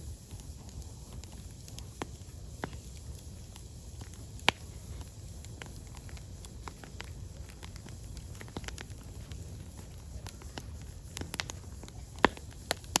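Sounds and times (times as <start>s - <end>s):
firewood crackling and popping: 0.0s - 13.0s
low steady rumble: 0.0s - 13.0s.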